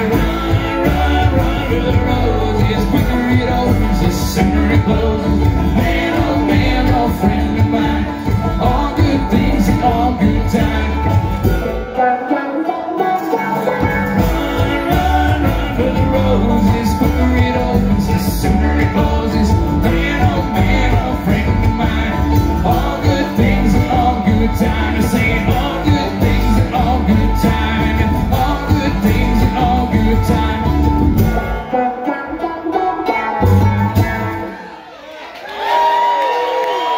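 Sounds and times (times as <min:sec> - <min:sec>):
upright bass: 0:00.0 - 0:12.2, 0:13.0 - 0:34.6
acoustic guitar: 0:00.0 - 0:35.0
banjo: 0:00.0 - 0:35.1.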